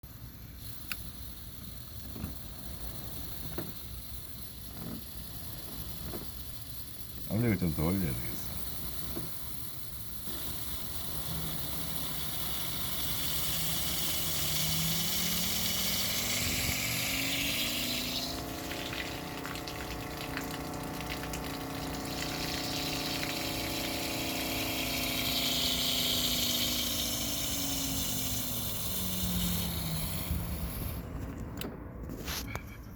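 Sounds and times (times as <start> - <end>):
water pump motor humming: 0.1 - 31.2
water spraying from tap: 0.5 - 31.0.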